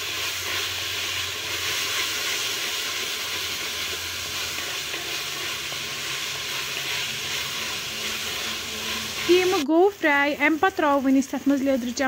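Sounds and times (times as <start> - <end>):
spatula stirring in a pot: 0.0 - 9.7
meat sizzling in hot oil: 0.0 - 12.0.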